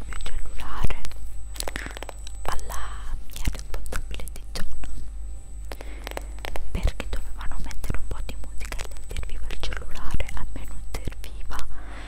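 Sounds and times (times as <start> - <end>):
soft whispering: 0.0 - 5.1, 5.7 - 12.0.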